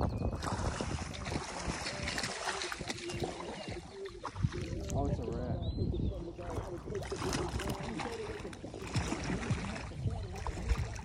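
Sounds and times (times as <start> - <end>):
water splashing from hooked fish: 0.2 - 5.4, 6.2 - 11.0.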